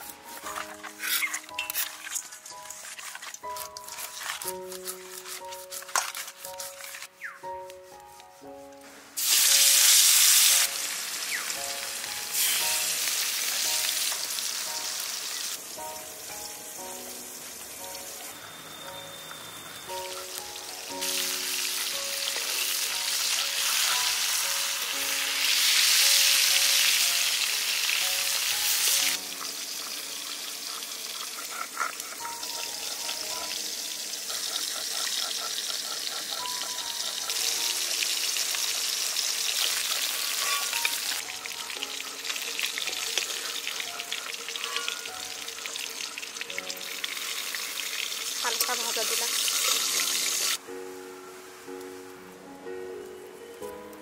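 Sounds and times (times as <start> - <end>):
fish sizzling in hot oil: 0.0 - 7.0, 9.2 - 50.6
light background music: 0.0 - 54.0.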